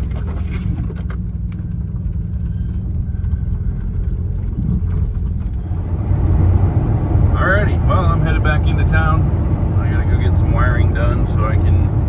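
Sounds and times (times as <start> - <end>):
van engine and road rumble: 0.0 - 12.0.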